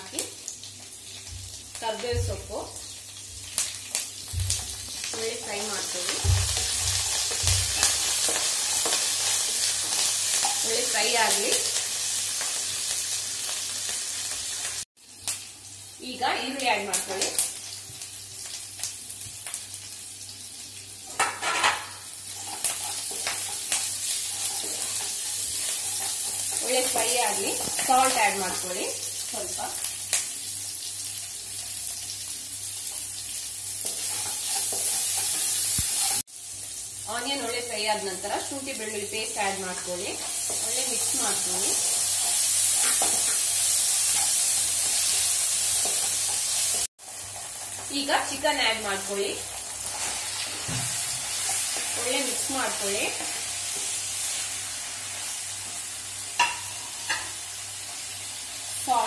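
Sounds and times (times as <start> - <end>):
onions sizzling in hot oil: 0.0 - 59.0.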